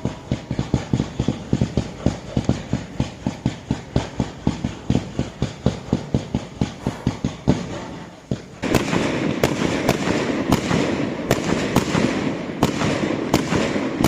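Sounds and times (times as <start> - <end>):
fireworks launches and bangs: 0.0 - 14.0.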